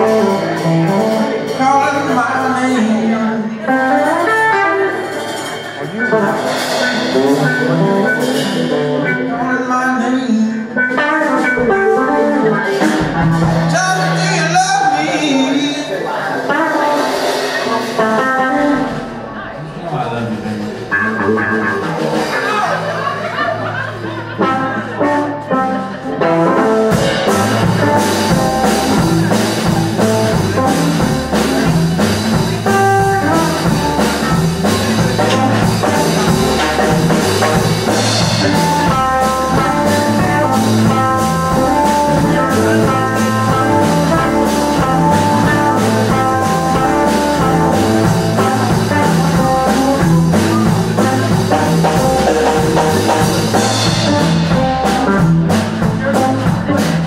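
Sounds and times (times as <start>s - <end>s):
bass and drums: 0.0s - 57.0s
electric guitar: 0.0s - 57.0s.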